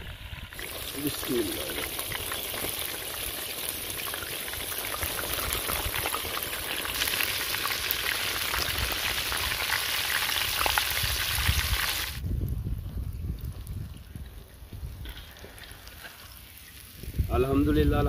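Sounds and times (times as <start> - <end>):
fish deep-frying in hot oil: 0.0 - 12.2, 15.0 - 18.0.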